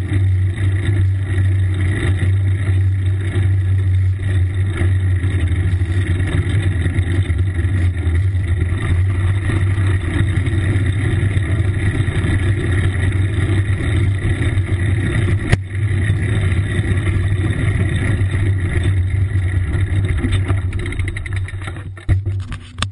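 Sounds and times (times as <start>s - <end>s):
bicycle tyres rolling: 0.0s - 22.9s.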